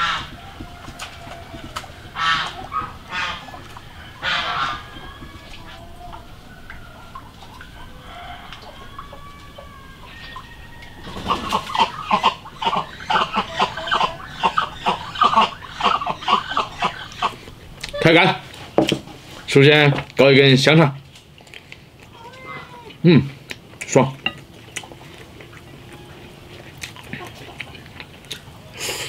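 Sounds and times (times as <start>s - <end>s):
chickens clucking: 0.0s - 20.0s, 21.0s - 29.0s.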